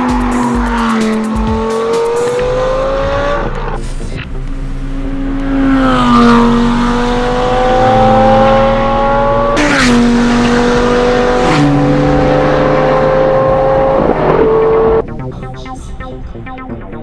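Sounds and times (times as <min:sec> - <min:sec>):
car engine accelerating hard: 0:00.0 - 0:15.1.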